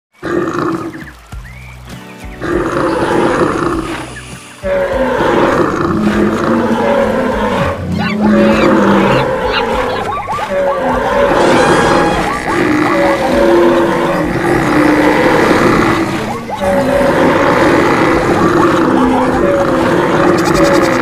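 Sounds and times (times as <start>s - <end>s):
music: 0.2s - 21.0s
animal roars and calls: 2.4s - 21.0s.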